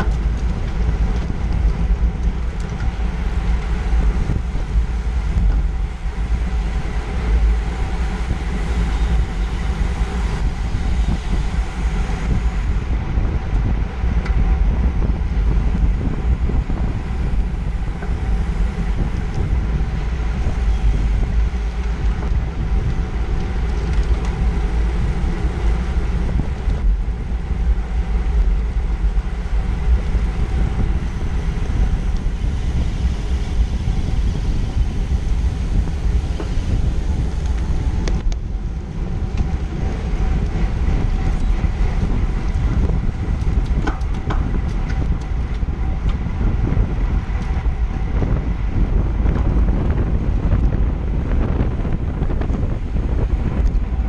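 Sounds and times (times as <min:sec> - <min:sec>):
bike tyre and drivetrain noise: 0:00.0 - 0:54.0
wind rumble on microphone: 0:00.0 - 0:54.0.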